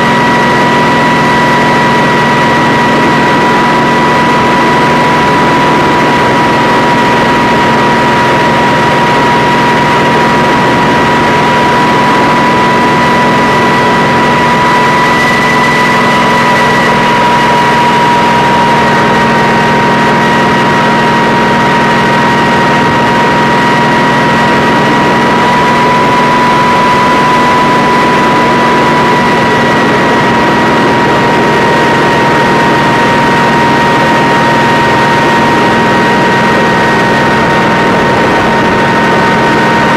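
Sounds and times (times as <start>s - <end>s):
helicopter engines and rotors: 0.0s - 39.9s
high-pitched whine: 0.0s - 39.9s.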